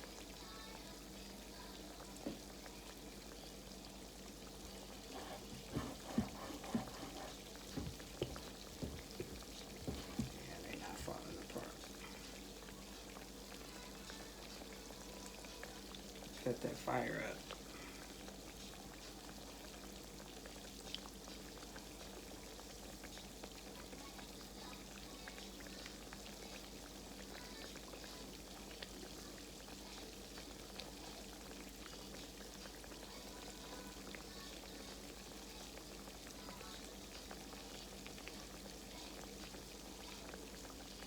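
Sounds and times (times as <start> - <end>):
food frying in hot grease: 0.0 - 41.0.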